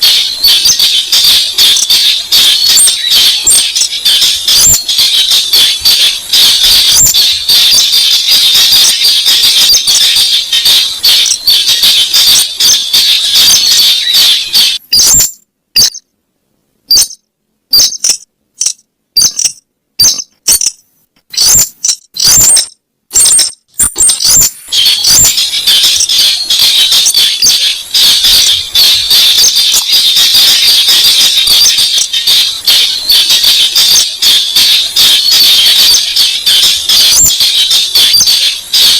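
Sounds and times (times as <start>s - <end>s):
bird squeaky chattering: 0.0s - 16.0s, 16.9s - 32.1s.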